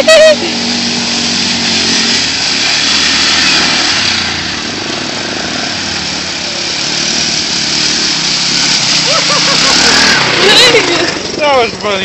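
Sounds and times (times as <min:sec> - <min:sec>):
quad engine running: 0:00.0 - 0:12.0
water splashing from wheels: 0:00.0 - 0:12.0.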